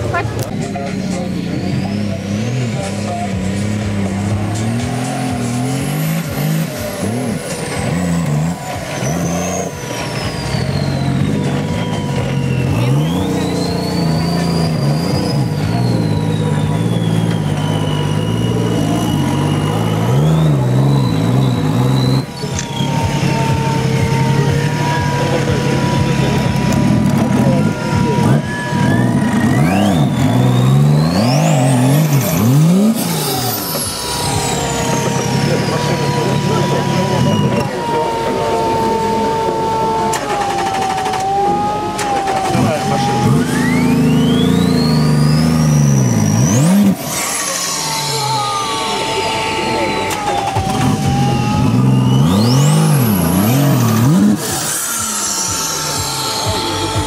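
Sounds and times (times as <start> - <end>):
engine revving: 0.0 - 57.0
thin high whistle: 5.4 - 26.8, 27.4 - 57.0.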